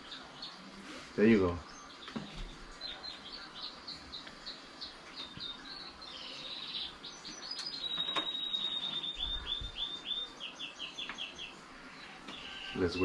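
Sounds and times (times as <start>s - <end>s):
small bird singing: 0.0s - 13.0s.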